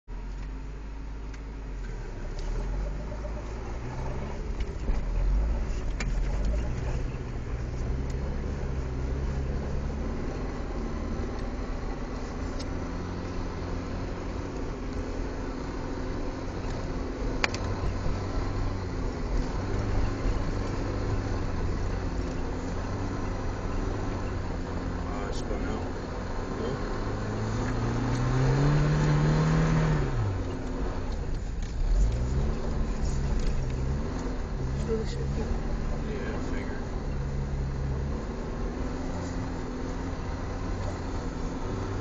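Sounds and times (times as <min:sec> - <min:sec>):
car engine revving: 0:00.2 - 0:42.0.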